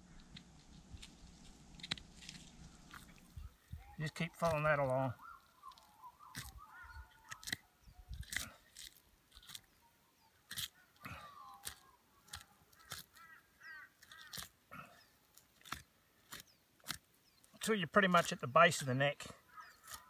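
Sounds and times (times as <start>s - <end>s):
meat tearing under a knife: 0.3s - 17.6s, 19.5s - 20.0s
bird chirping: 2.5s - 20.0s.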